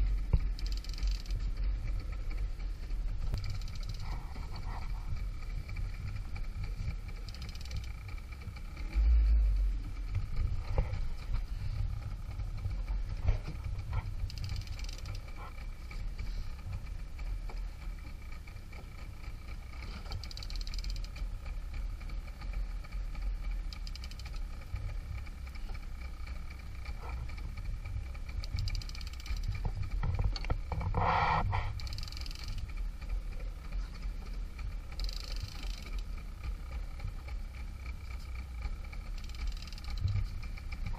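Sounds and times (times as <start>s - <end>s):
boat noise: 0.0s - 40.9s
wind at sea: 0.0s - 40.9s.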